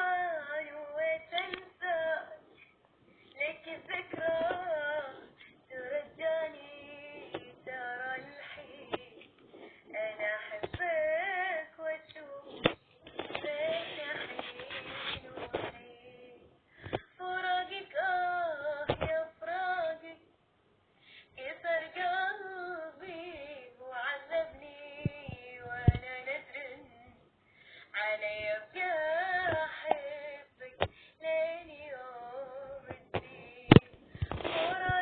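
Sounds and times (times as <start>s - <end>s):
woman singing: 0.0s - 2.6s, 3.3s - 20.3s, 21.4s - 27.2s, 27.9s - 35.0s.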